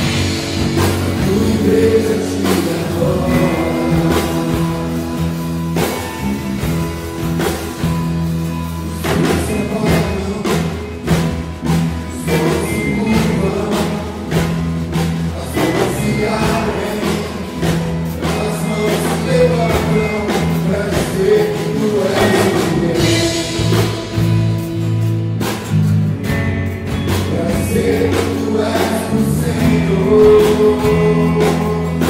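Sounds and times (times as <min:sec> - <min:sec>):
people singing: 0:00.0 - 0:07.9, 0:08.8 - 0:24.7, 0:27.1 - 0:32.0
acoustic guitar: 0:00.0 - 0:32.0
drum kit: 0:00.0 - 0:32.0
electric bass: 0:00.0 - 0:32.0.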